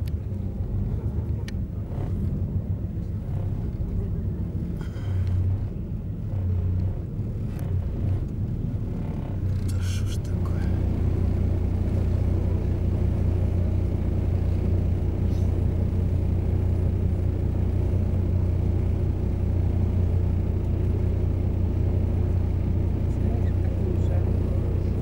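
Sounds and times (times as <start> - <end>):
motor droning hum: 0.0 - 25.0.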